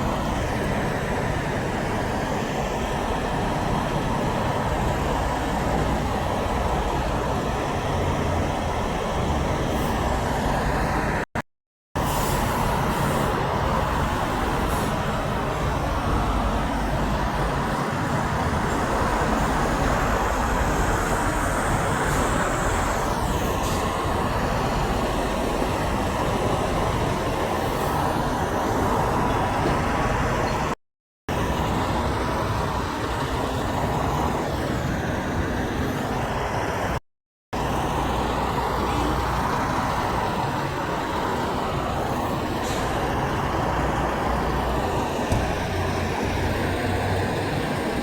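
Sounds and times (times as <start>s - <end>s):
roadway traffic noise: 0.0s - 11.4s, 12.0s - 48.0s.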